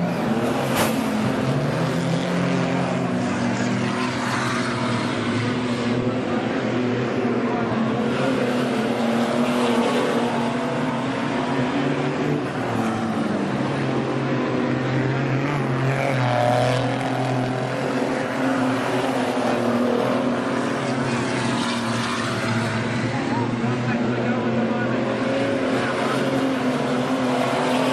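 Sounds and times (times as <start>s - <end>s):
race car engines passing: 0.0s - 27.9s.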